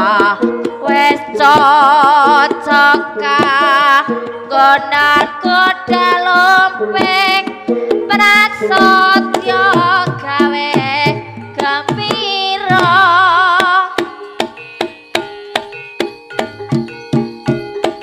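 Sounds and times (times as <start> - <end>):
hand drum strokes: 0.0 - 18.0
high melody with wide vibrato: 0.0 - 18.0
ringing metallophone tones: 0.0 - 18.0.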